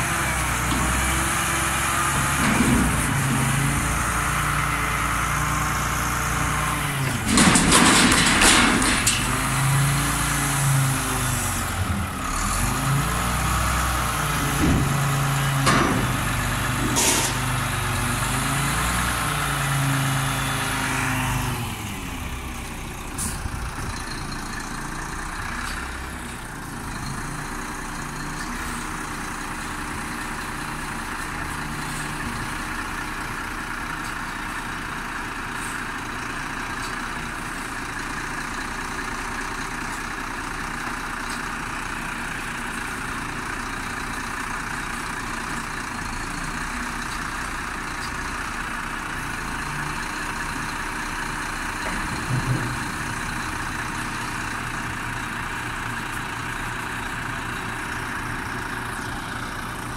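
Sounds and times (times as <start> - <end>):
garbage truck diesel engine revving: 0.0 - 59.9.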